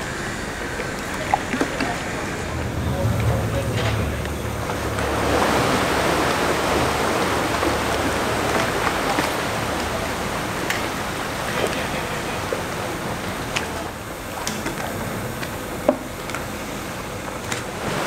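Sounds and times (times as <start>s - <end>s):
churning water rushing: 0.0s - 18.0s.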